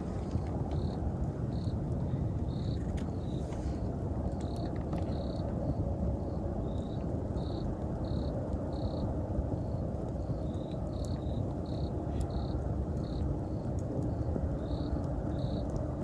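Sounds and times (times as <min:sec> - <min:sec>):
wood fire burning: 0:00.0 - 0:16.0
insect chirping: 0:00.8 - 0:15.6.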